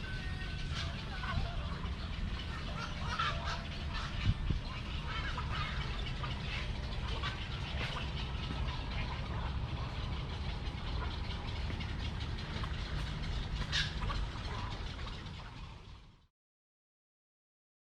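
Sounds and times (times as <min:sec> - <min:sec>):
bird calls: 0:00.0 - 0:16.3
low rumble: 0:00.0 - 0:16.3.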